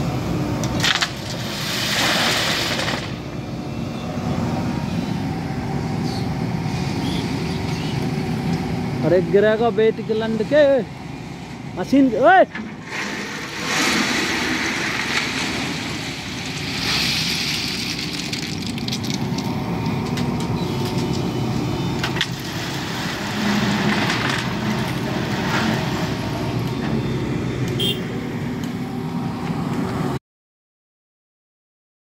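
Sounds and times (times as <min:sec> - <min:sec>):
diesel truck engine running: 0:00.0 - 0:30.1.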